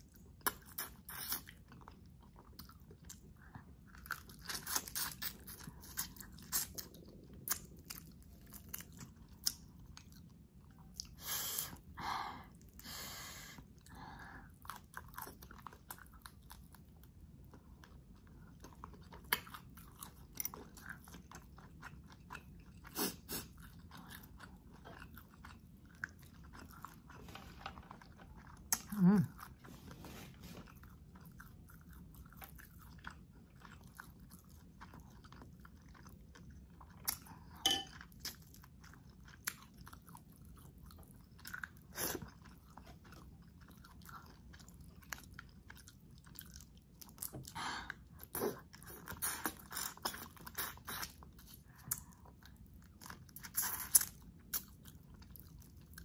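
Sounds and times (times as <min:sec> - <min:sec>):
chewing and crunching shrimp: 0:00.0 - 0:12.8, 0:13.6 - 0:56.0.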